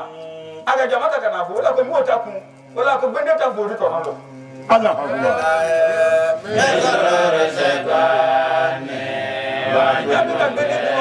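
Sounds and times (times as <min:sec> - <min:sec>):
person chanting: 0:01.8 - 0:11.0.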